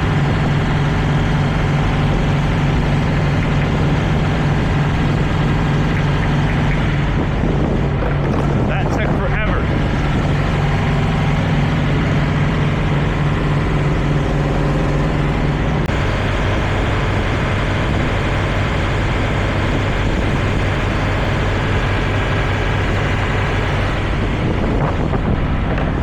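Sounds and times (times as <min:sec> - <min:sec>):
truck diesel engine idling: 0:00.0 - 0:26.0
wind on microphone: 0:00.0 - 0:26.0.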